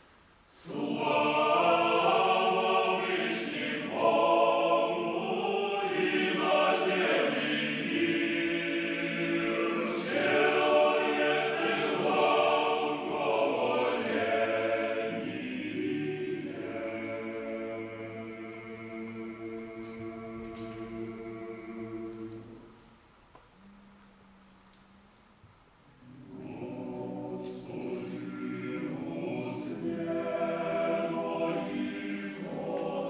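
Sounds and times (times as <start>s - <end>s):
men's choir singing a cappella: 0.4s - 22.8s, 26.0s - 33.0s.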